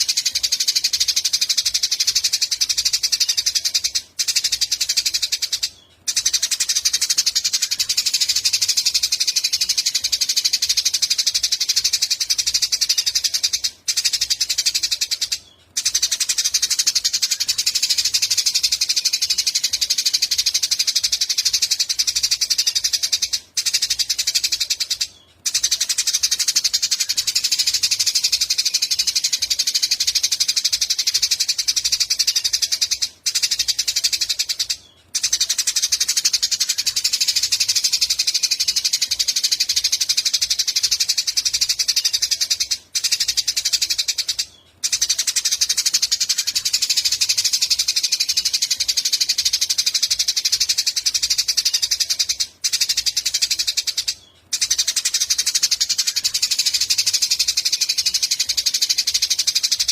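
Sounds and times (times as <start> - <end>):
songbird trilling: 0.0 - 59.9.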